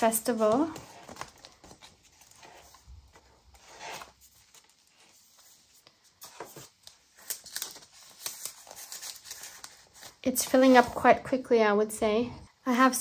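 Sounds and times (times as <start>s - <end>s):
paper rustling: 0.0s - 11.3s.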